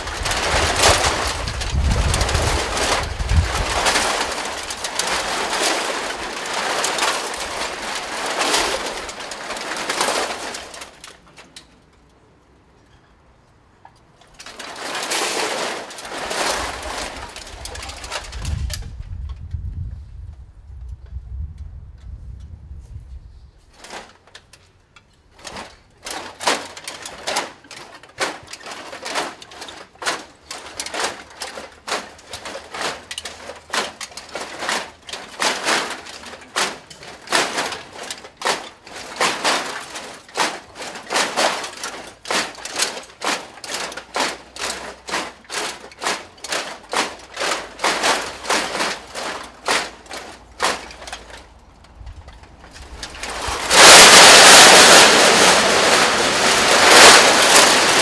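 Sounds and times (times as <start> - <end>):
shiny costumes rattling: 0.0 - 11.5, 14.3 - 18.8, 25.4 - 58.0.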